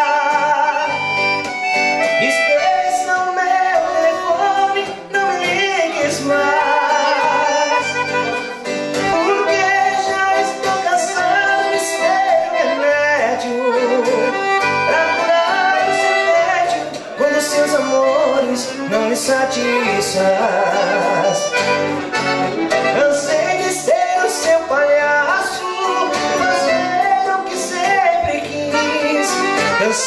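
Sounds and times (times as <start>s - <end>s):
band playing lead melody: 0.0s - 30.0s.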